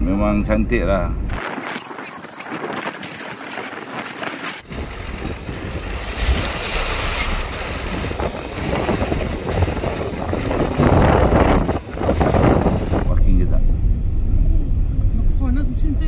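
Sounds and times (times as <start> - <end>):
bus engine rumbling: 2.3 - 16.0.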